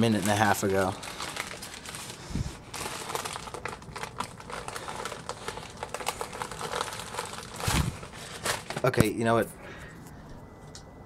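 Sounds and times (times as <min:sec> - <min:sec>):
paper mailer rustling and crinkling: 0:00.0 - 0:09.5.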